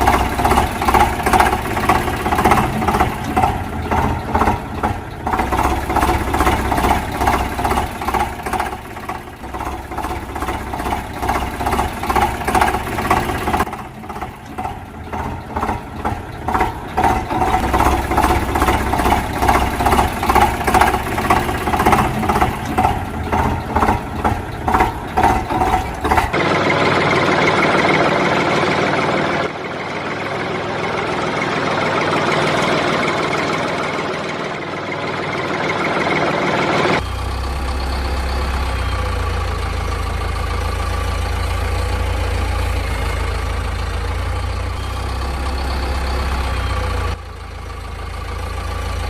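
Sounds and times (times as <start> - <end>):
engine running with fast pulse: 0.0 - 49.0.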